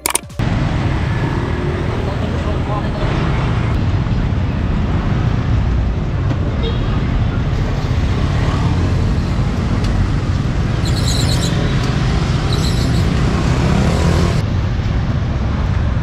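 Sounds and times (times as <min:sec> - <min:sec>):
low rumble of passing traffic: 0:00.3 - 0:16.0.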